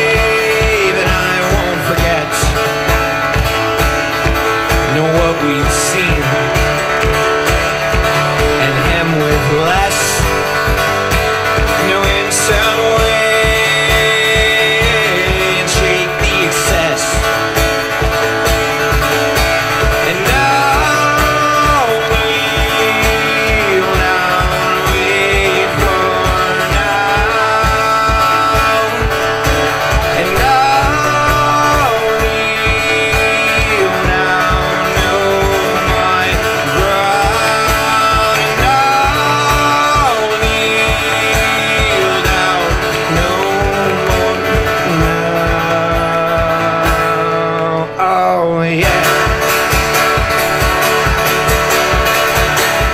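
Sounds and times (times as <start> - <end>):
man singing: 0.0 - 52.9
strummed acoustic guitar: 0.0 - 52.9.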